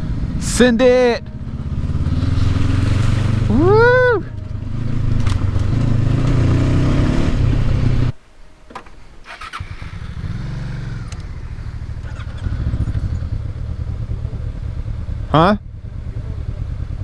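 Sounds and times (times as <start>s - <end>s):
motorcycle engine running: 0.0s - 8.2s, 9.4s - 17.0s.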